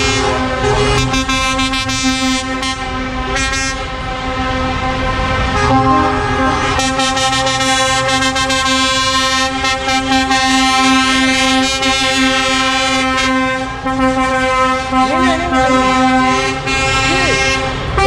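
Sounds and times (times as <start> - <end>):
diesel engines rumbling: 0.0 - 18.0
lorry air horn blast: 0.0 - 18.0.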